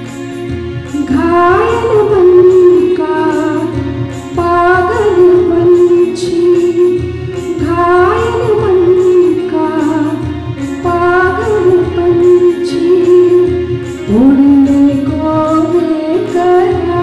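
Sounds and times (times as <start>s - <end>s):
instrumental accompaniment: 0.0s - 17.0s
woman singing devotional prayer: 1.0s - 3.8s, 4.4s - 17.0s.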